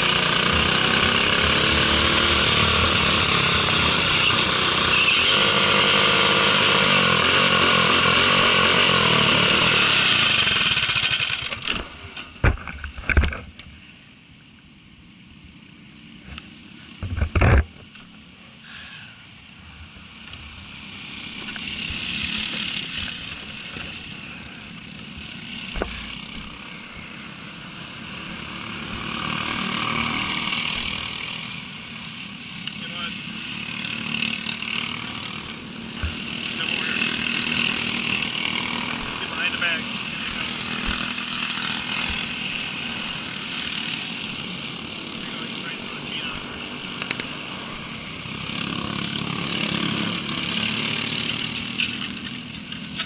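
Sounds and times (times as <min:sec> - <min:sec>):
kart engine running: 0:00.0 - 0:13.4, 0:19.8 - 0:53.0.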